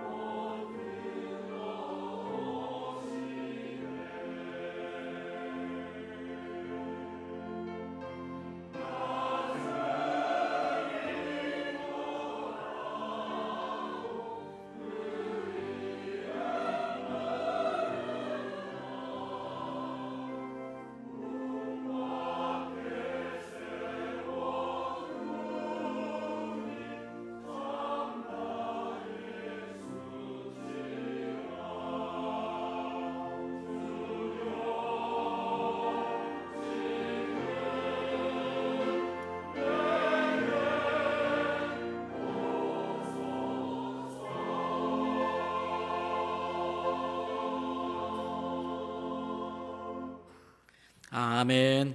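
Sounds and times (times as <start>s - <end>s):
choir singing a hymn: 0.0s - 50.6s.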